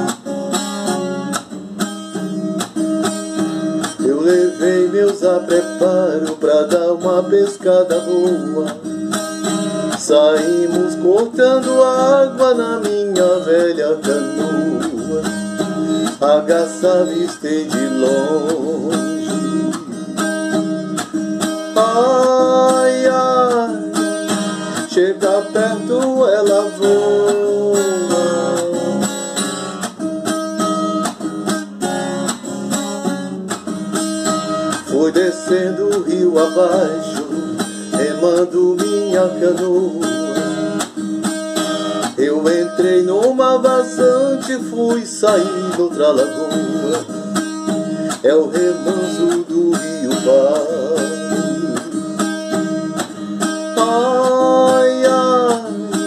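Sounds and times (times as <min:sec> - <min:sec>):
acoustic guitar strumming: 0:00.0 - 0:56.0
man singing: 0:03.7 - 0:29.7, 0:34.4 - 0:41.0, 0:41.7 - 0:56.0.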